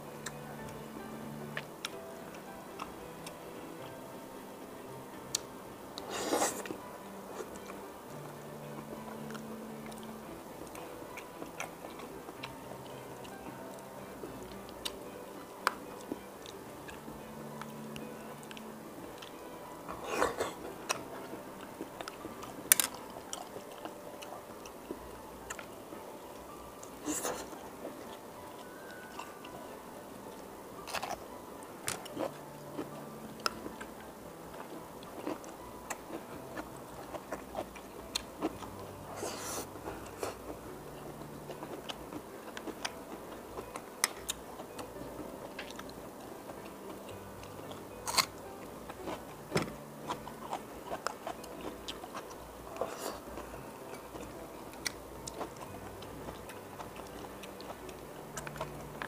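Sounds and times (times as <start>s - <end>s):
chewing: 5.3s - 49.4s, 50.0s - 59.0s.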